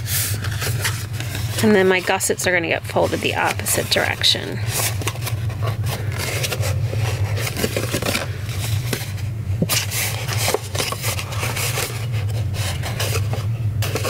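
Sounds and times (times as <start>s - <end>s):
paper folding crackles: 0.0s - 14.0s
steady low hum: 0.0s - 14.0s.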